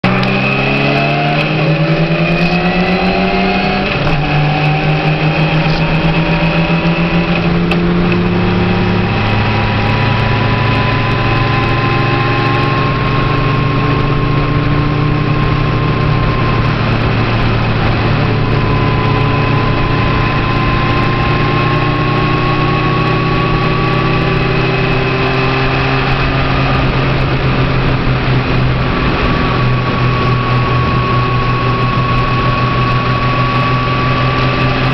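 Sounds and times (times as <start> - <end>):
car engine: 0.0 - 34.9
tyre road noise: 0.0 - 34.9.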